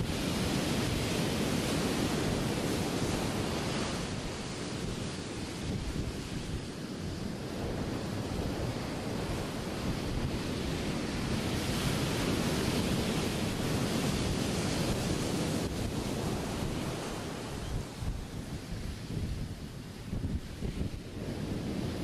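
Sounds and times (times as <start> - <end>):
ocean waves breaking: 0.0 - 22.0
wind on microphone: 0.0 - 22.0.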